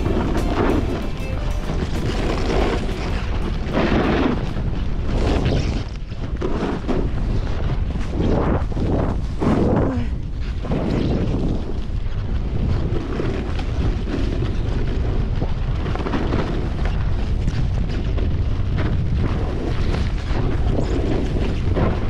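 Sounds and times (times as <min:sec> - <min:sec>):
wind buffeting microphone: 0:02.1 - 0:22.0.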